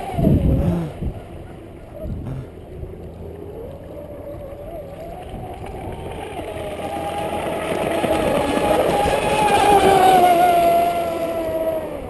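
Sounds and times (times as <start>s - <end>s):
rc speedboat motor whine: 0.0s - 12.0s.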